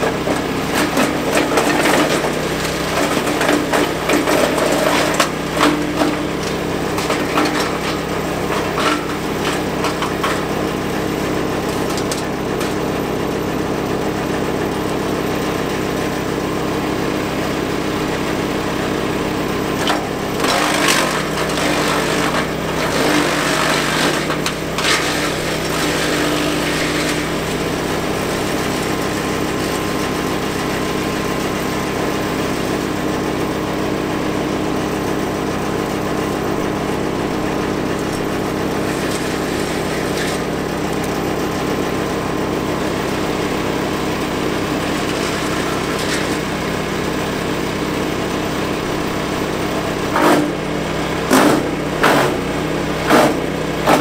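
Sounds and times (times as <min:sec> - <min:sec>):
wood chipper crunching limb: 0:00.0 - 0:54.0
wood chipper engine running: 0:00.0 - 0:54.0.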